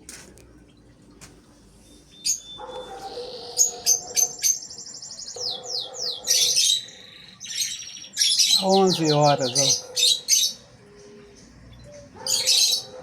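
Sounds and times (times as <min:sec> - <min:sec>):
small cage birds chirping: 0:00.0 - 0:13.0.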